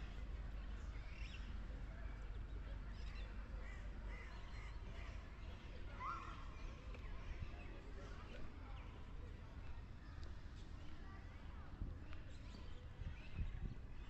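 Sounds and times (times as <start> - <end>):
low street rumble: 0.0 - 14.0.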